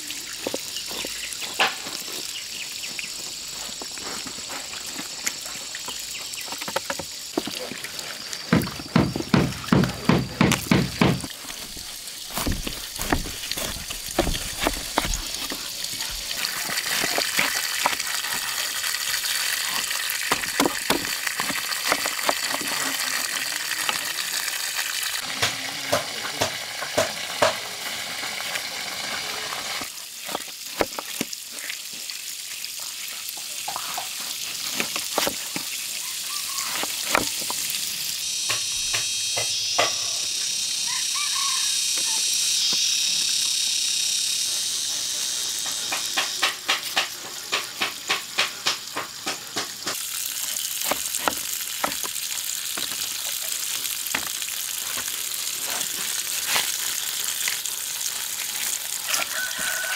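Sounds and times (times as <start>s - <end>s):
food sizzling in pan: 11.1s - 59.9s.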